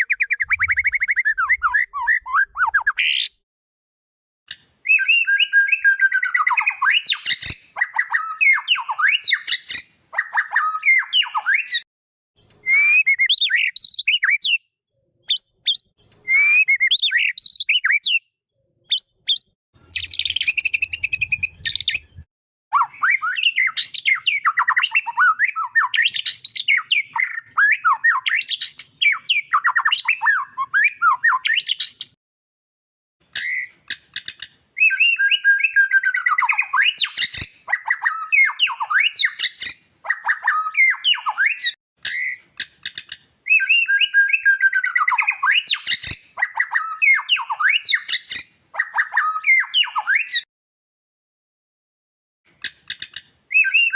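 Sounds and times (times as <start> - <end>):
bird singing whistled phrases: 0.0 - 3.4, 4.8 - 11.8, 12.6 - 14.7, 15.3 - 18.3, 18.9 - 32.2, 33.4 - 33.7, 34.8 - 42.4, 43.5 - 50.5, 53.5 - 53.9.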